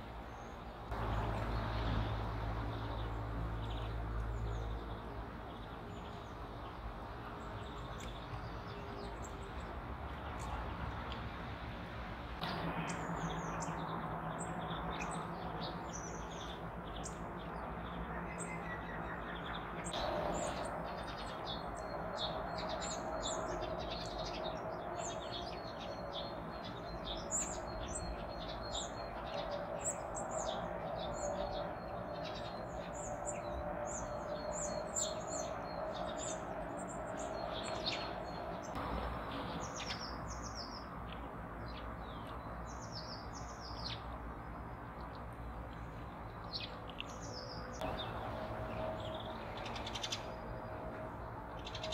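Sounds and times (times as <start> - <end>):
songbirds chirping: 0.0 - 51.9.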